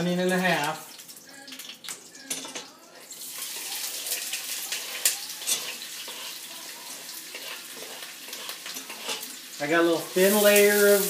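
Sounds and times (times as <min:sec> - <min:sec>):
oil crackling: 0:00.0 - 0:11.0
onion sizzling in hot oil: 0:00.0 - 0:11.0.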